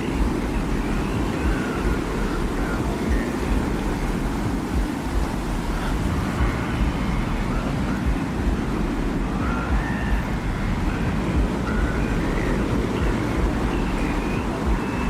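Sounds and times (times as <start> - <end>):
faint whistling tones: 0.0 - 15.0
rumbling wind: 0.0 - 15.0.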